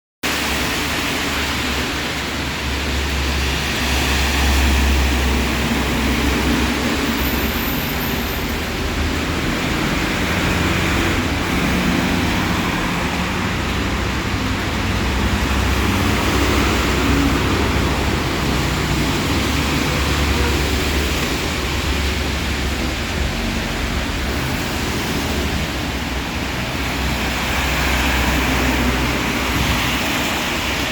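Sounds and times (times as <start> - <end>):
heavy rain: 0.2 - 30.9.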